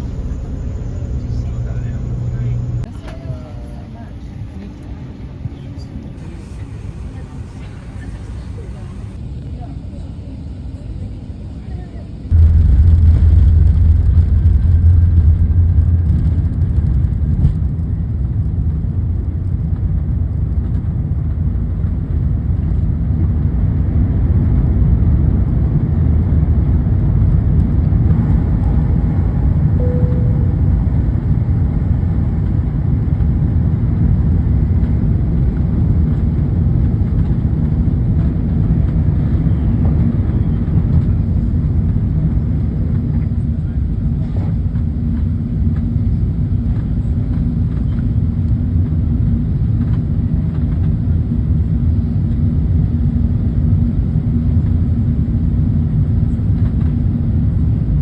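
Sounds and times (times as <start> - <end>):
jet engine rumble: 0.0 - 58.0.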